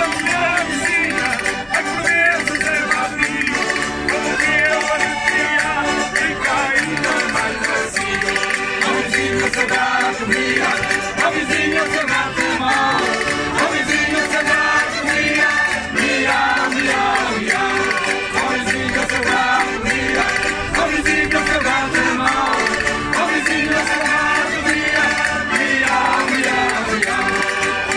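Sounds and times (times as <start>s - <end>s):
group singing in chorus: 0.0s - 27.9s
wooden percussion beat: 0.0s - 27.9s.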